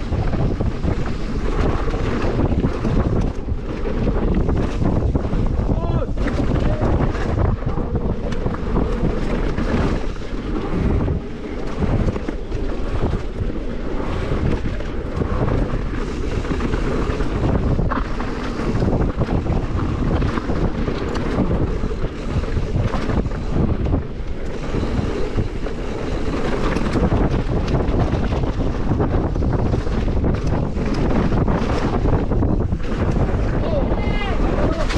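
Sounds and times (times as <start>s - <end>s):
bike knocking and rattling: 0.0s - 34.9s
tyres rolling over dirt: 0.0s - 34.9s
wind buffeting microphone: 0.0s - 34.9s.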